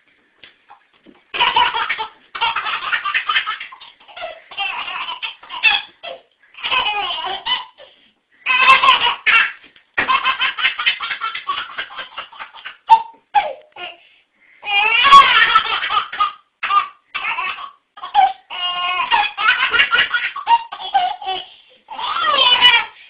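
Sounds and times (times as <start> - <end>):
baby laughing: 0.7 - 14.0, 14.6 - 23.0.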